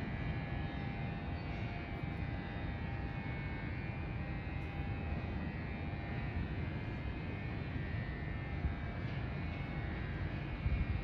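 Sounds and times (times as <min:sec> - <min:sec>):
faint train whine: 0:00.0 - 0:11.0.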